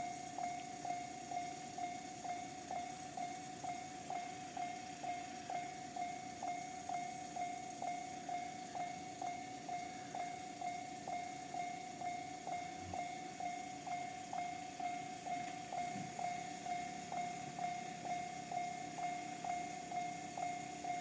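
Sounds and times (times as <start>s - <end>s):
level-crossing warning bell: 0.0s - 21.0s.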